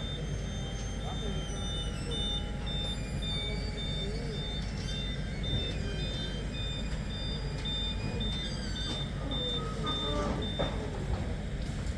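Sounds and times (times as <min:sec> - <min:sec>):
high electronic warning beeps: 0:00.0 - 0:10.7.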